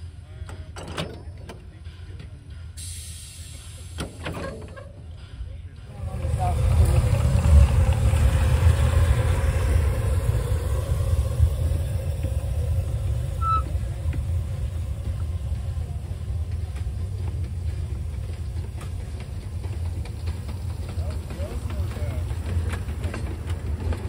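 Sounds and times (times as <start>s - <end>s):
steam locomotive rumbling: 0.0s - 24.0s.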